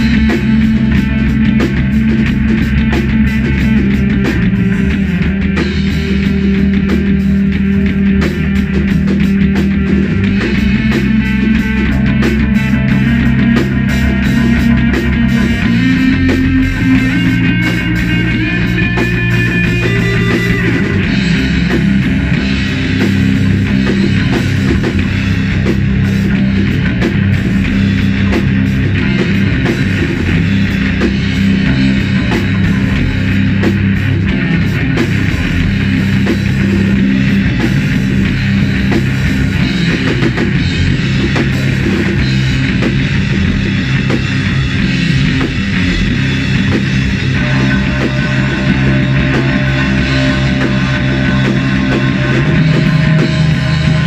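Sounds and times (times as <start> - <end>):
drum kit: 0.0 - 54.0
electric guitar playing low riffs: 0.0 - 54.0.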